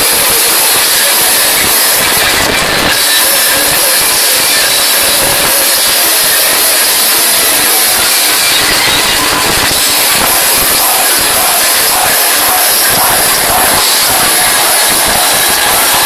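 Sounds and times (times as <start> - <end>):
heavy metal band playing: 0.0 - 16.0.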